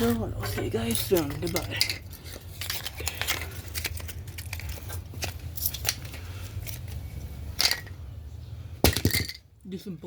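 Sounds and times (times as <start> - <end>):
wooden pieces clicking and clattering: 0.0 - 8.0, 8.8 - 9.4.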